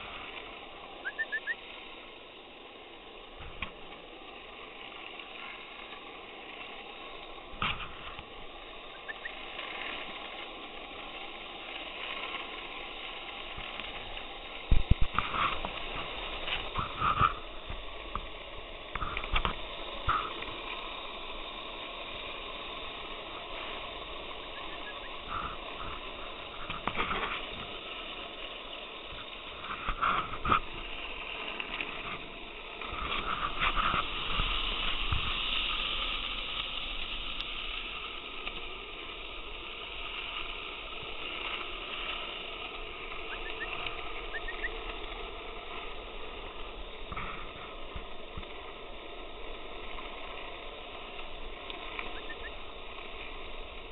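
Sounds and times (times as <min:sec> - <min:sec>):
skateboard wheels rolling: 0:00.0 - 0:53.9.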